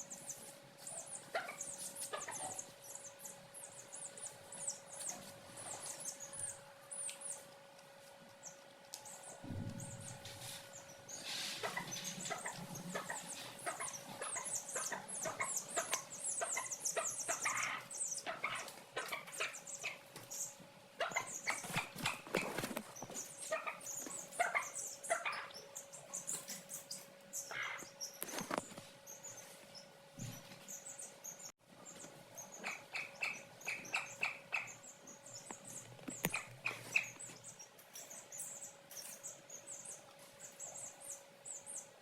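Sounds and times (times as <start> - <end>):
chicks peeping: 0.0 - 7.5, 8.4 - 41.9.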